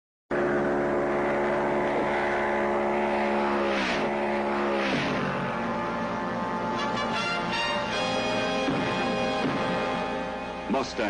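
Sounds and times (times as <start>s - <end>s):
car engine revving high: 0.3s - 11.0s.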